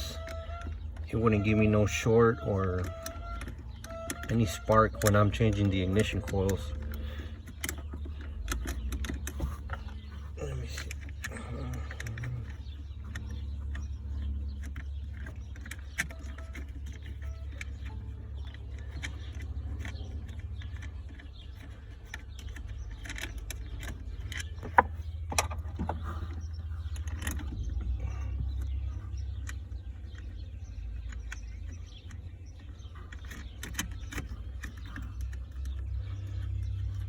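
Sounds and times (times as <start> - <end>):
metallic clicks of tools: 0.0 - 37.0.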